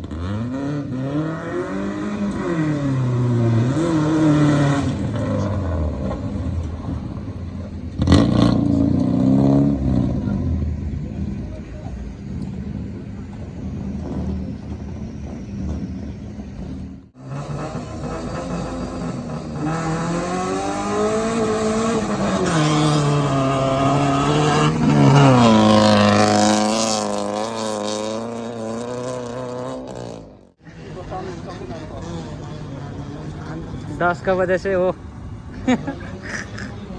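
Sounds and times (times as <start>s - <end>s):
rally car engine accelerating: 0.0s - 36.9s.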